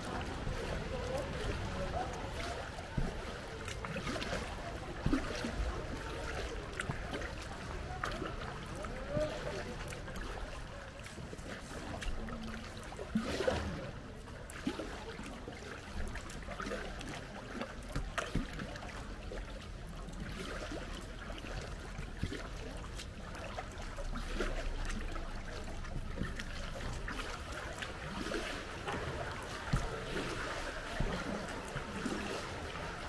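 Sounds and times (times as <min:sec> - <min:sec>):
paddle dipping in water: 0:00.0 - 0:33.0
small splashes: 0:00.0 - 0:33.0
water dripping off paddle: 0:00.0 - 0:33.0.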